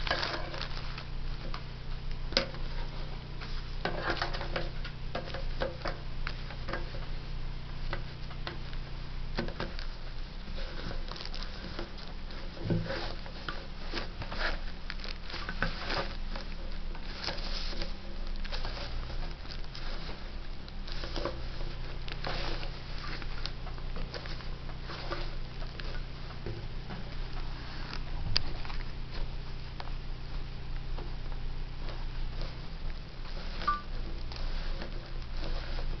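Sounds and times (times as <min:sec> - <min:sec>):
fabric rustling: 0:00.0 - 0:36.0
steady low hum: 0:00.0 - 0:36.0.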